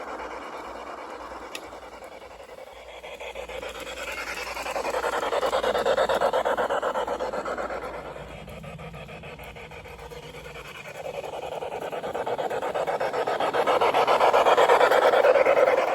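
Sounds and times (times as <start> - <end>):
model train running on track: 0.0 - 15.9.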